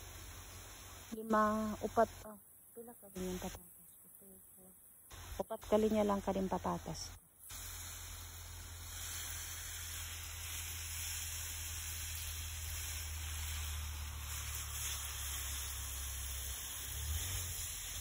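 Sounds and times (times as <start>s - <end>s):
hose spraying water onto soil: 0.0s - 3.7s, 5.1s - 18.0s.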